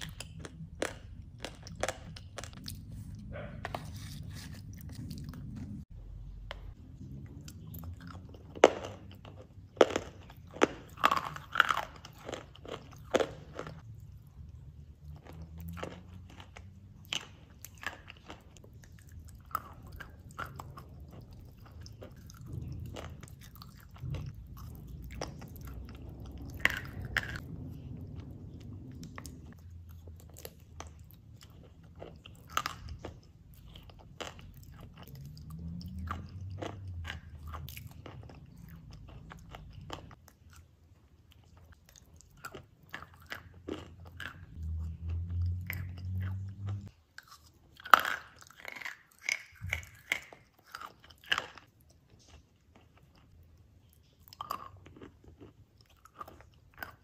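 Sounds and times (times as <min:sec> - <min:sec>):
chewing with wet mouth sounds: 0:00.0 - 0:57.0.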